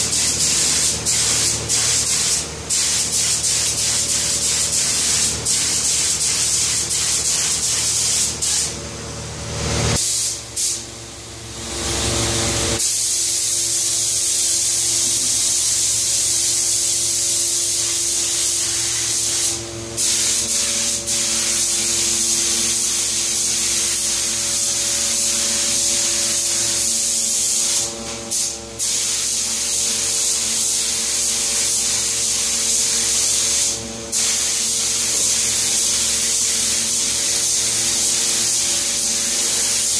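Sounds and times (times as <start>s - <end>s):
spray gun hissing: 0.0s - 8.8s, 9.8s - 10.9s, 11.6s - 39.9s.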